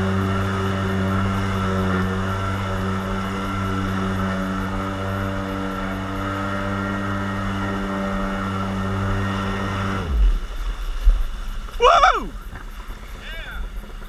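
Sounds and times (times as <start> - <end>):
watercraft engine droning: 0.0 - 14.0.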